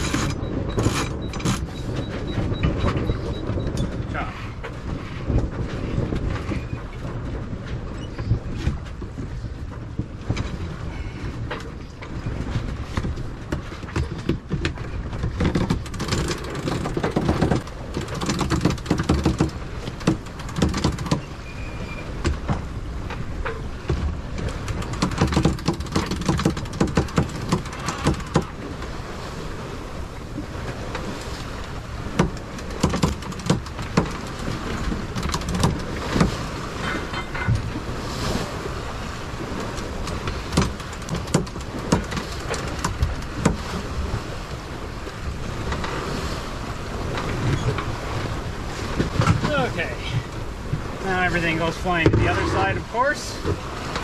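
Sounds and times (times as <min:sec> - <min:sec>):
boat knocks and rattles: 0:00.0 - 0:54.0
water rushing along hull: 0:00.0 - 0:54.0
wind buffeting microphone: 0:00.0 - 0:54.0.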